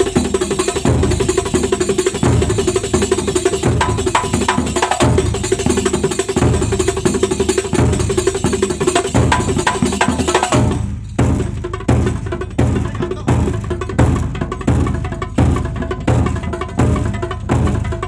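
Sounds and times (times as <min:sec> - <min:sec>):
hand drums and frame drums: 0:00.0 - 0:18.0.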